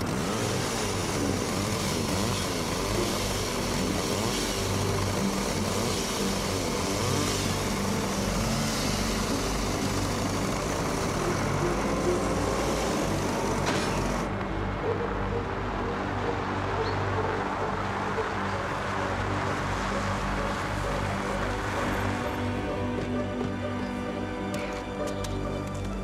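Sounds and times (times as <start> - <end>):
chainsaw engines: 0.0 - 26.0
wheel loader diesel engine: 0.0 - 26.0.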